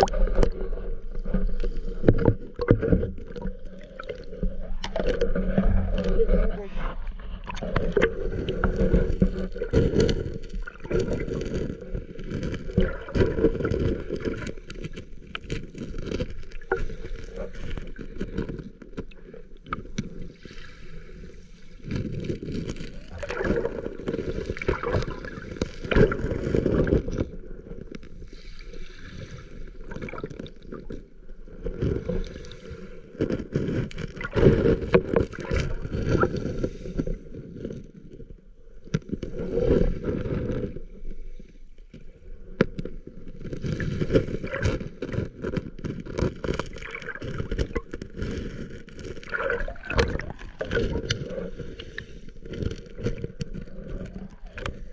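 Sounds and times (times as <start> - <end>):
muffled underwater water sloshing: 0.0 - 54.9.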